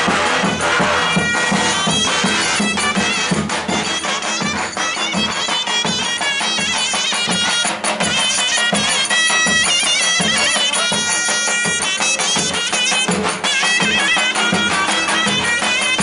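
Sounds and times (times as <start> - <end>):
regular drum beat: 0.0 - 16.0
shrill wind instrument melody: 0.0 - 16.0.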